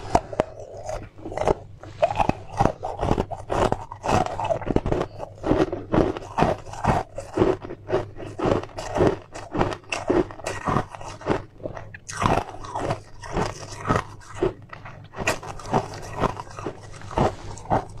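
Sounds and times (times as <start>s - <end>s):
chewing crunchy food: 0.0s - 18.0s.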